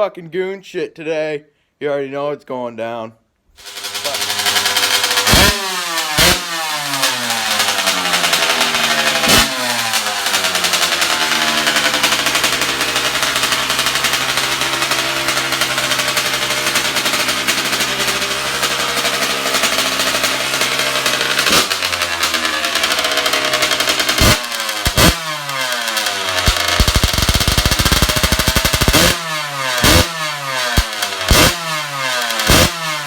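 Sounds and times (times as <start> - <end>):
snowmobile engine revving: 3.6 - 33.0.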